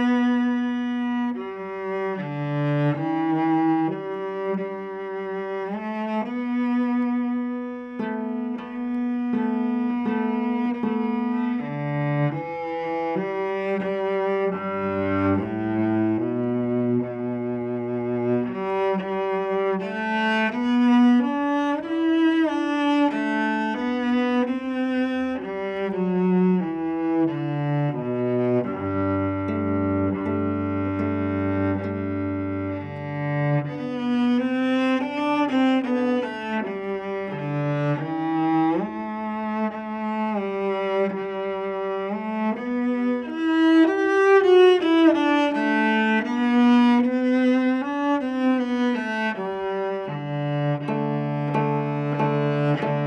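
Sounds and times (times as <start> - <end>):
solo cello melody: 0.0 - 53.0.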